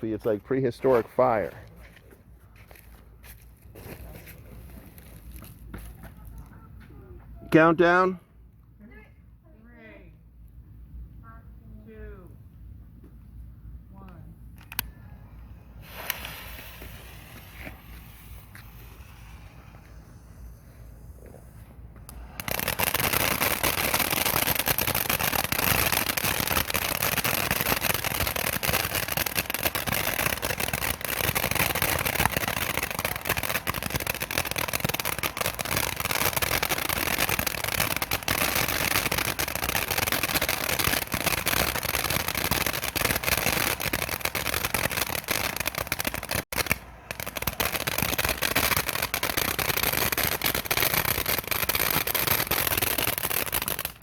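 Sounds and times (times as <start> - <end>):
firework fountain hissing and crackling: 0.0 - 1.8, 2.6 - 6.7, 14.6 - 54.0.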